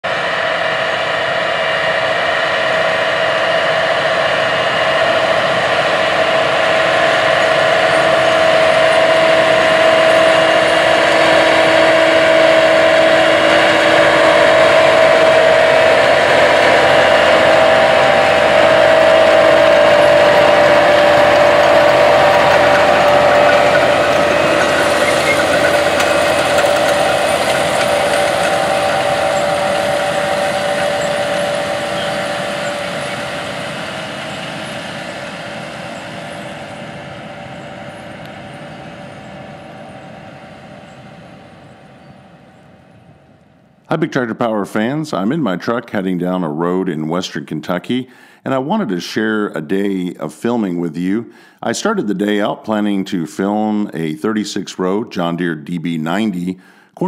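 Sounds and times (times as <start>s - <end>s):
high whine: 0.0s - 57.0s
tractor diesel engine under load: 0.0s - 57.0s.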